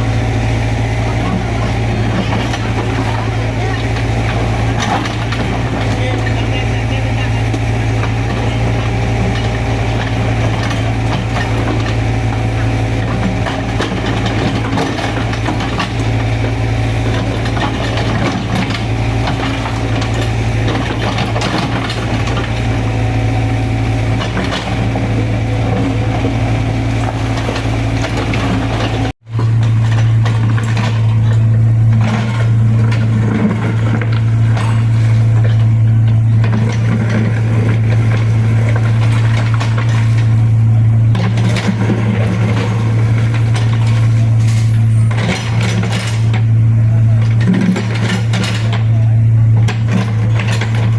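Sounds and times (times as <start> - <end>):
diesel engine running with clatter: 0.0 - 50.9.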